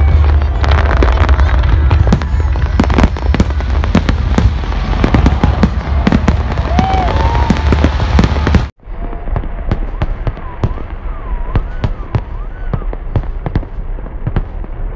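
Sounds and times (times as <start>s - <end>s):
wavering firework whistles: 0.0s - 13.6s
continuous rumble: 0.0s - 14.9s
fireworks bangs and crackle: 0.0s - 14.9s.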